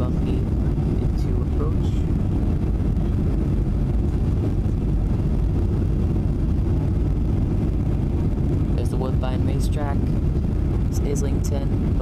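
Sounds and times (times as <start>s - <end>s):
air rushing over wing: 0.0s - 12.0s
jet engines roaring: 0.0s - 12.0s.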